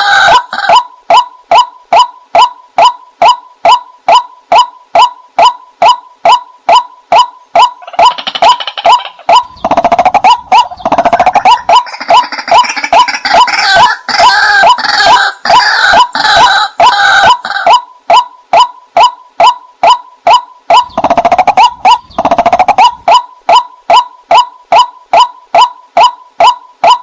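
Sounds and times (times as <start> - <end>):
rattling croaking bird calls: 0.0 - 27.0
waterhen calls: 0.0 - 27.0.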